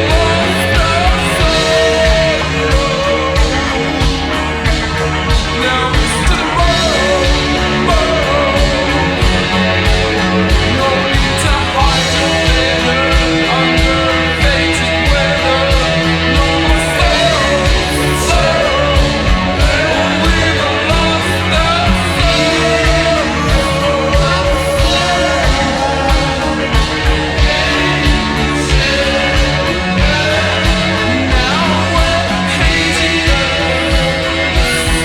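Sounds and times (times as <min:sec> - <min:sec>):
slowed reverb rock song: 0:00.0 - 0:35.0.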